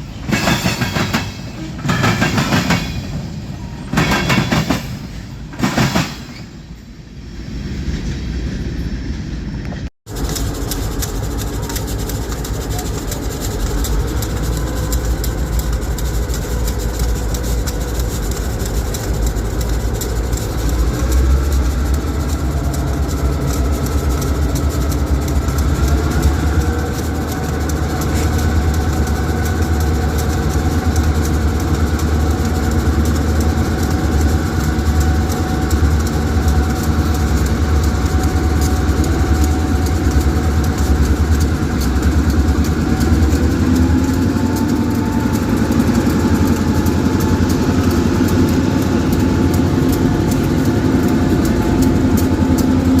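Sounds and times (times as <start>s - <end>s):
diesel locomotive engine throttling up: 0.0s - 53.0s.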